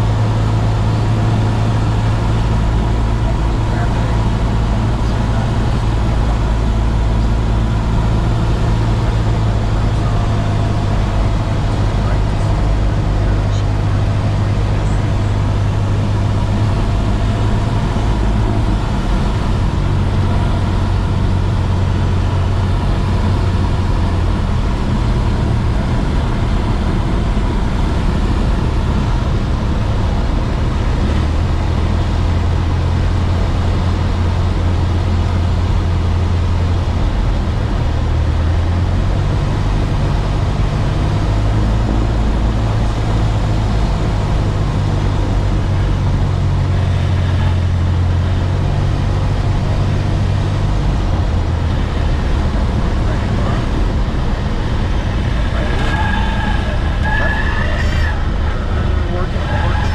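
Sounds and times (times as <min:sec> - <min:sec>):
airplane engine and propeller: 0:00.0 - 0:59.9.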